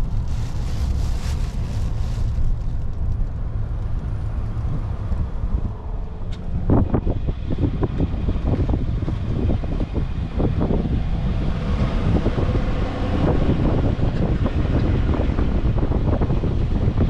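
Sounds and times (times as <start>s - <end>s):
car road noise: 0.0s - 17.0s
wind buffeting microphone: 0.0s - 17.0s.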